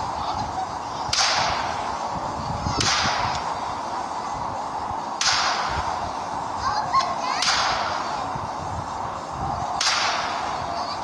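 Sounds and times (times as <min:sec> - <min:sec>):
firework burning hiss: 0:00.0 - 0:11.0.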